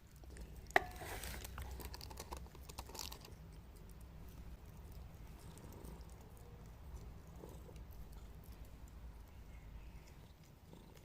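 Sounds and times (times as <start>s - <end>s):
cat chewing and licking: 0.0s - 11.0s.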